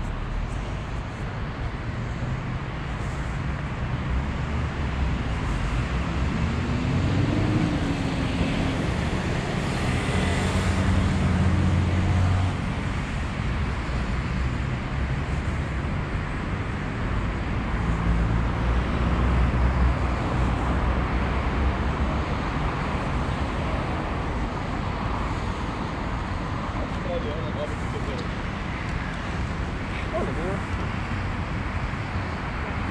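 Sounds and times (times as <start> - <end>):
cars passing: 0.0 - 32.9.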